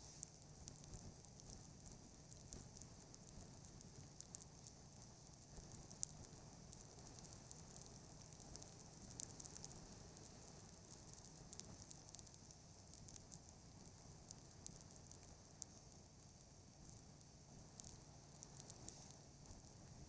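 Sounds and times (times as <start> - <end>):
faint crackling and ticking: 0.0 - 20.0
low hiss: 0.0 - 20.0.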